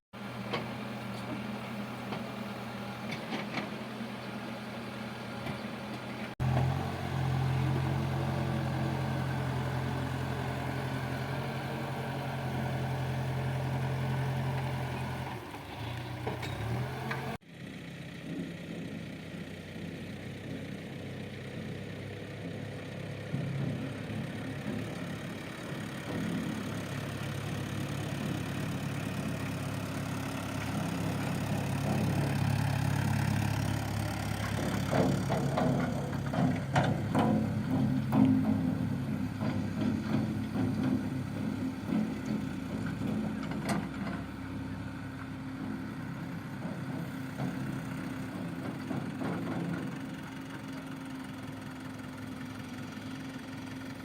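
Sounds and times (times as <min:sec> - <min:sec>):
diesel engine droning: 0:00.2 - 0:54.0.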